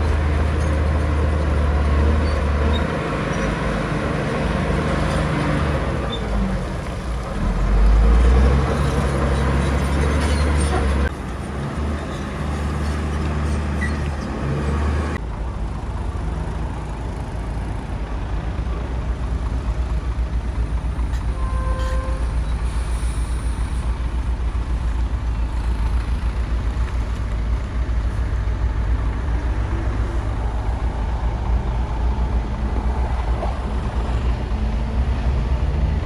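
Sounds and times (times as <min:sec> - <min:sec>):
bulldozer diesel engine: 0:00.0 - 0:36.0.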